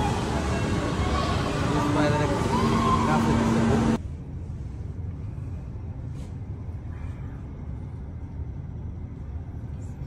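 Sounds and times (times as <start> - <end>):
low rumble of indoor ambience: 0.0 - 10.0.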